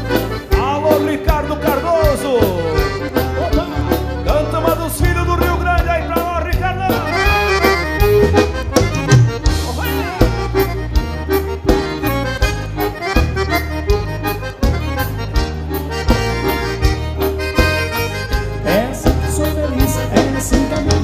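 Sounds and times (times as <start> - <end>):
accordion dance music with bass: 0.0 - 21.0.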